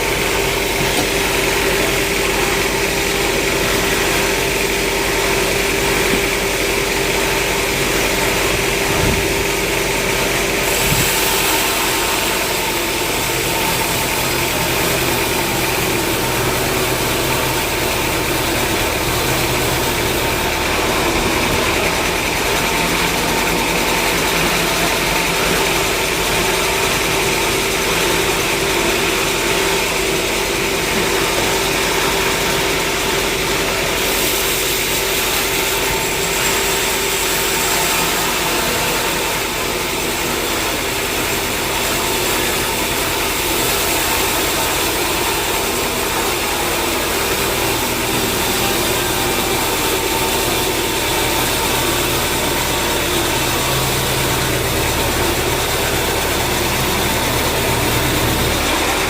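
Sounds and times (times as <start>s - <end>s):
sawmill machinery hum and whine: 0.0s - 59.0s.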